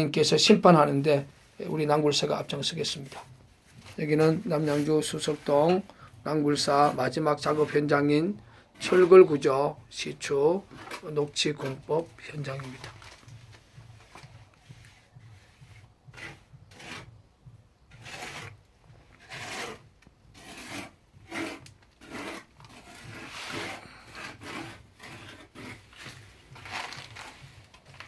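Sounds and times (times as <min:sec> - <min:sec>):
plastering tool scraping mortar: 0:00.5 - 0:28.0.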